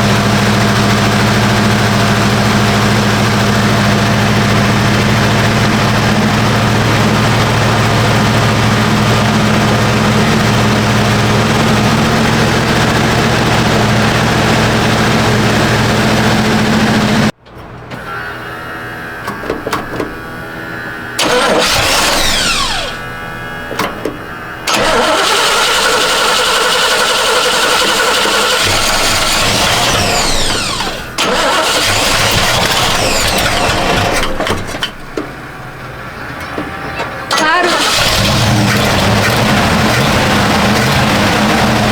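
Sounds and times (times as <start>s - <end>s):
engine running and revving: 0.0s - 17.3s, 20.6s - 23.8s, 24.6s - 34.8s, 36.1s - 41.9s.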